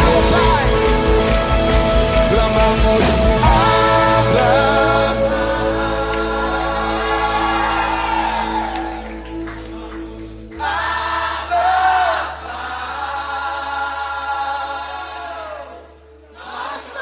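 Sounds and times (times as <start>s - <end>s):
instrumental backing with bass: 0.0s - 16.7s
people singing worship song: 0.0s - 17.0s.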